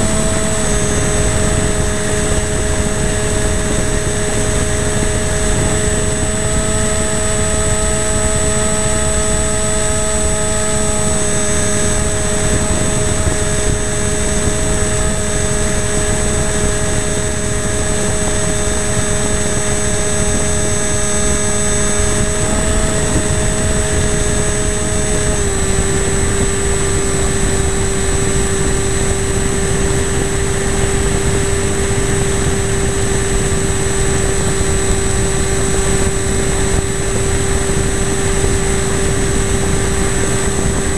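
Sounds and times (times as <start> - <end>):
model airplane motor whine: 0.0 - 40.9
rushing wind: 0.0 - 40.9.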